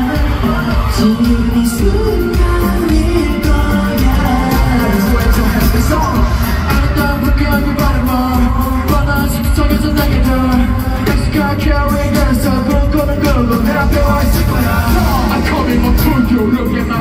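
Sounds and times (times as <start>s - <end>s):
loud pop backing beat: 0.0s - 17.0s
men singing: 0.0s - 17.0s.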